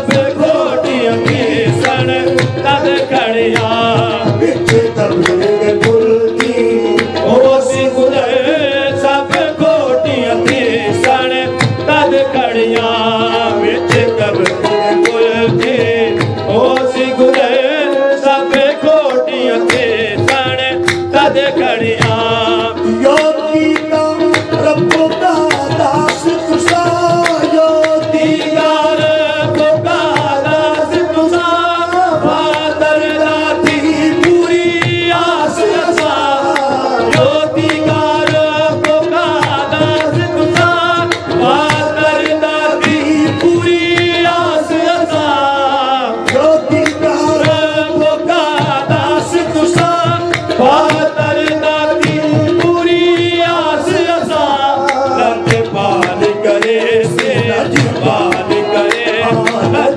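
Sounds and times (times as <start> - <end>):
tabla drumming: 0.0 - 59.9
voices singing: 0.0 - 59.9.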